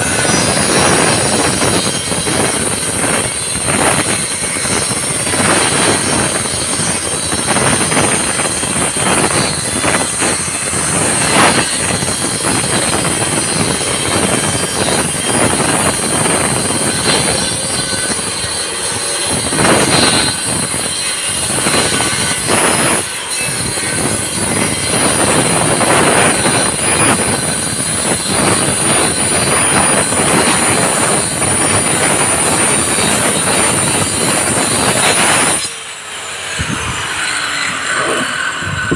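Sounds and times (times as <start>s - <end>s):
circular saw cutting wood: 0.0s - 38.9s.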